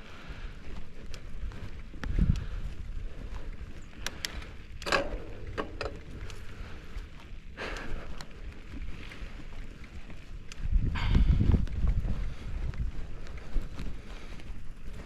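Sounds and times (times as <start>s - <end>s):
wind buffeting microphone: 0.0s - 15.0s
bike clicks and rattles: 0.1s - 15.0s.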